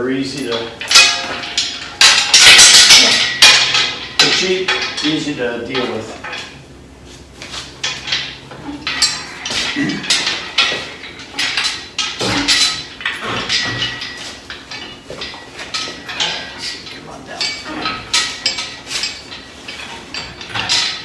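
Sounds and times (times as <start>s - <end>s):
metal parts and tools clanking: 0.0s - 21.0s.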